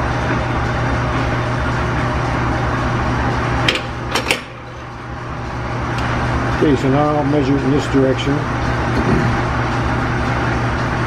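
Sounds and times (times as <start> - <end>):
shop machinery humming: 0.0 - 11.0.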